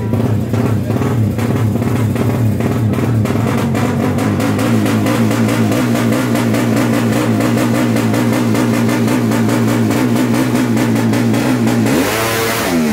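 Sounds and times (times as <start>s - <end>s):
motorcycle engine revving loud: 0.0s - 12.9s.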